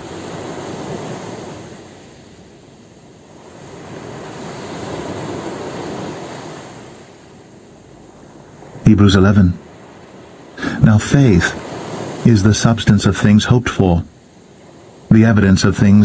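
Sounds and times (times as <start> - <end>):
ocean surf washing onto shore: 0.0 - 16.0.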